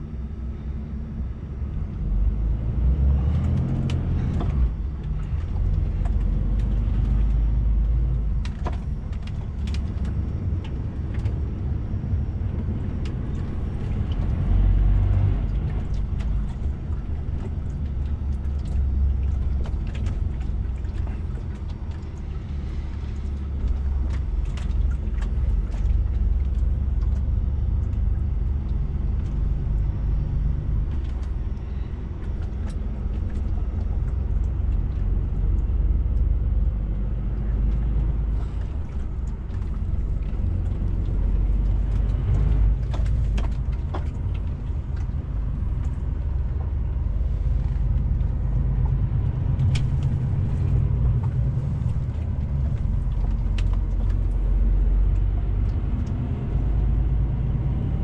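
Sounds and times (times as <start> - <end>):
diesel truck engine rumble: 0.0 - 58.0.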